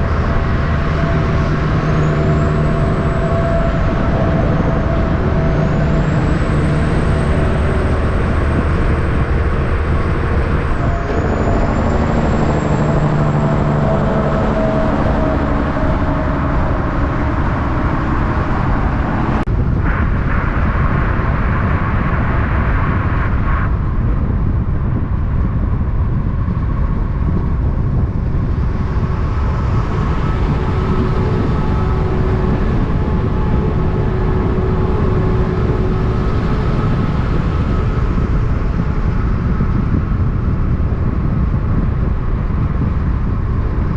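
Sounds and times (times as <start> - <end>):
heavy truck engines in traffic: 0.0 - 43.9.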